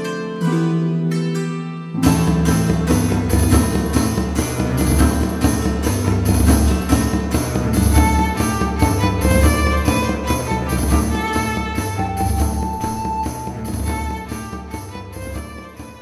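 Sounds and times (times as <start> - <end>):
plucked notes: 0.0 - 16.0
band with drums: 2.0 - 16.0.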